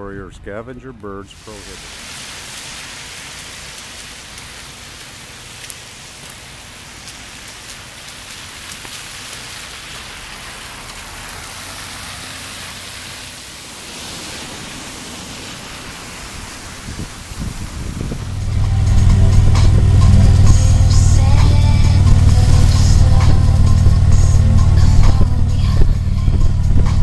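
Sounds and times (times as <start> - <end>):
wet road noise: 0.0 - 27.0
rain hissing: 1.1 - 27.0.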